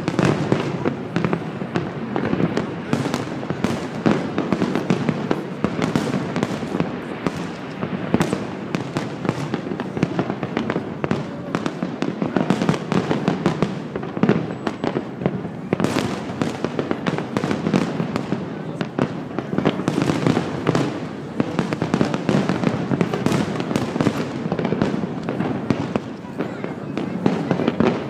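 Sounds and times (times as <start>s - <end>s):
aerial fireworks bursting: 0.0s - 28.0s.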